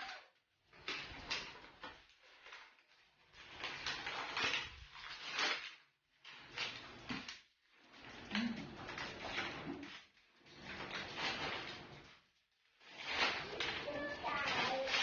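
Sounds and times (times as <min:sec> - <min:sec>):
wrapping paper rustling: 0:00.0 - 0:15.0.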